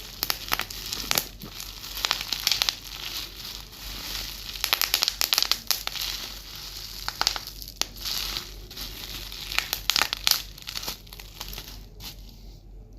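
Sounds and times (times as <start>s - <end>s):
bubble wrap popping: 0.0s - 12.4s
bubble wrap crinkling: 0.0s - 12.5s.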